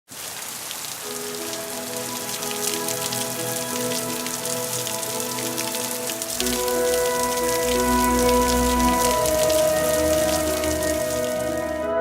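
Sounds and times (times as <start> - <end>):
rain pattering: 0.1 - 12.0.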